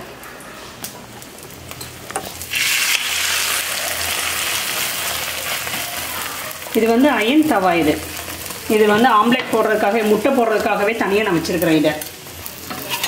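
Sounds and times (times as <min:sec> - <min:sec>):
omelette sizzling: 0:00.8 - 0:13.0.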